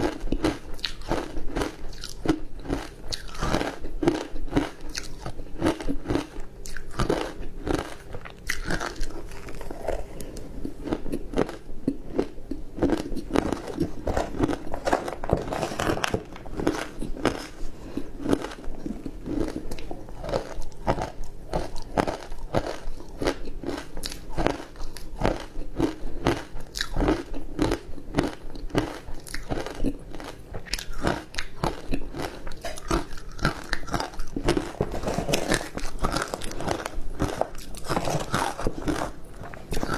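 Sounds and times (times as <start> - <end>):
crunching ice between teeth: 0.0 - 39.9.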